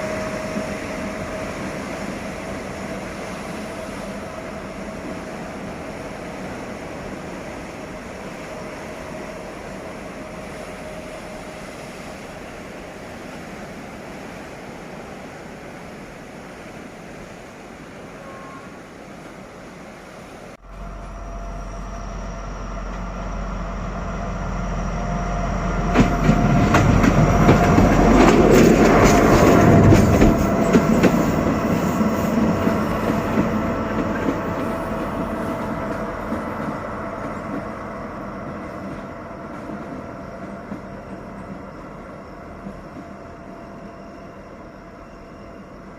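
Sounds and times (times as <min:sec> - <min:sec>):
diesel locomotive engine rumble: 0:00.0 - 0:17.4, 0:19.2 - 0:45.9.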